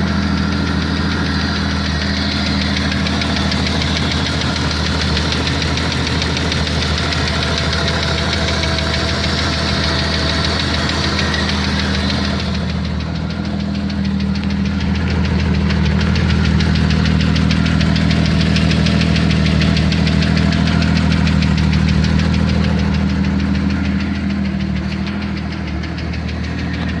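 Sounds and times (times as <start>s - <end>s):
engine running with rhythmic knock: 0.0s - 27.0s.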